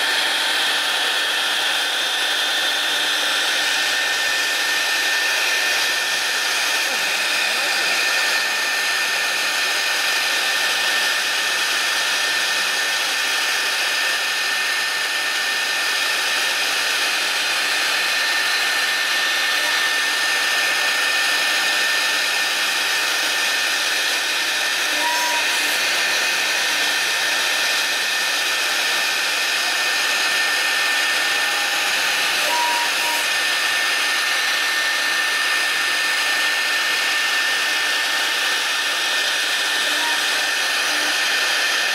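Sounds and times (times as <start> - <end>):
router spindle high whine: 0.0 - 41.9.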